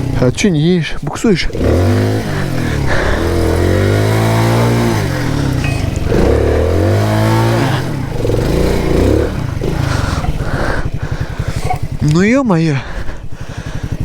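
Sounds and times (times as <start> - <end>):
moped engine revving: 0.0 - 14.0.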